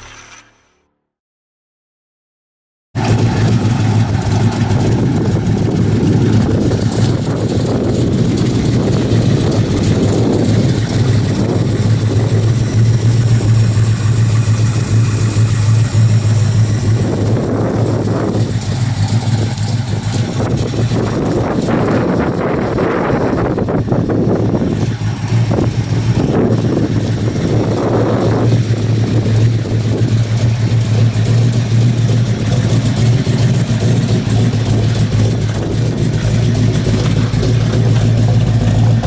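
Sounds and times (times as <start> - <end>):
car engine idling: 3.0 - 39.0.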